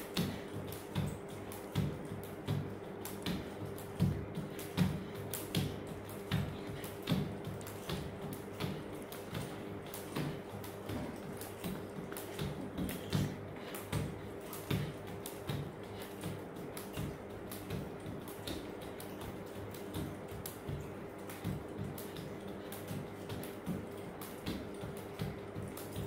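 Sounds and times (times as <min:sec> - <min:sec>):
skipping rope slapping tiles: 0:00.0 - 0:26.0
bare feet landing on tiles: 0:00.1 - 0:26.0.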